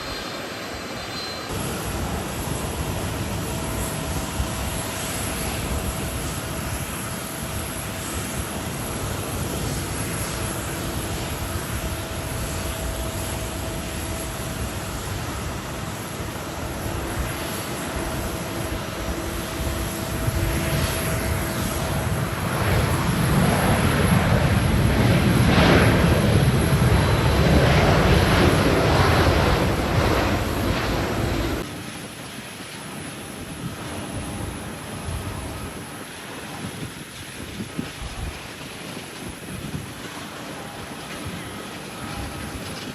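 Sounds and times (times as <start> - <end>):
jet airliner engines whining: 0.0 - 42.9
strong wind: 0.0 - 42.9.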